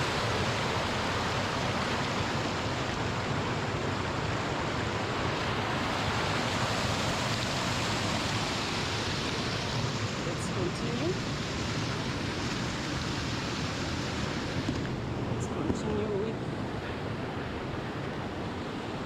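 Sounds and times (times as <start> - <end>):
small waterfall rushing: 0.0 - 19.0.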